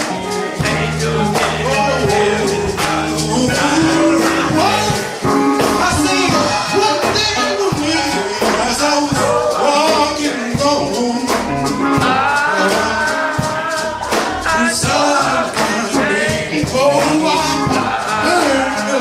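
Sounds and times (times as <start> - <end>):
band with percussion beat: 0.0 - 19.0
gospel singing: 0.0 - 19.0.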